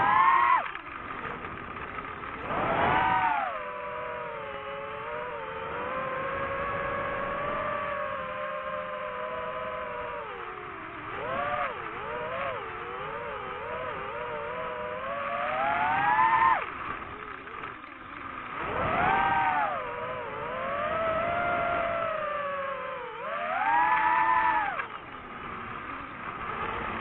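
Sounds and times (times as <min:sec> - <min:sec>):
motor revving: 0:00.0 - 0:27.0.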